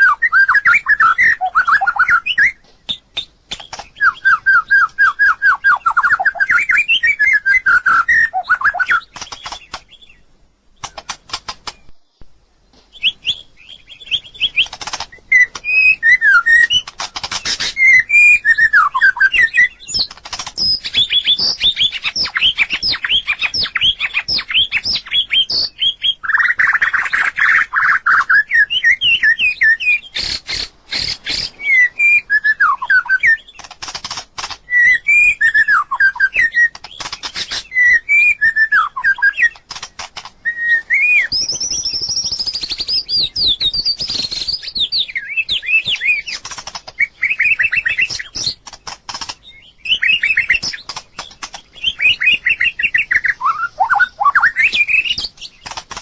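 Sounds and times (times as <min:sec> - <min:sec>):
bird sharp clicks: 0:00.0 - 0:10.2, 0:10.8 - 0:31.7, 0:32.7 - 0:56.0
bird whistling song: 0:00.0 - 0:12.3, 0:12.9 - 0:55.8.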